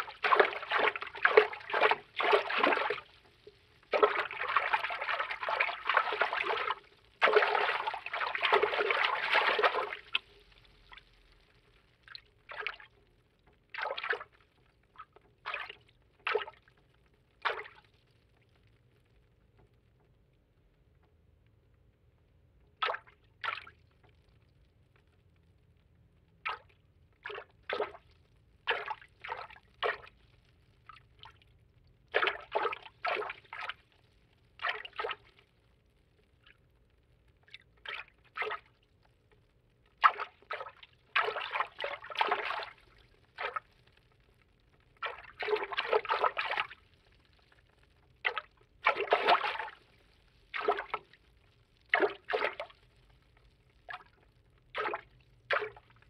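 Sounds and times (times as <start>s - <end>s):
water sloshes and splashes: 0.0s - 19.7s, 22.7s - 25.3s, 26.3s - 56.0s.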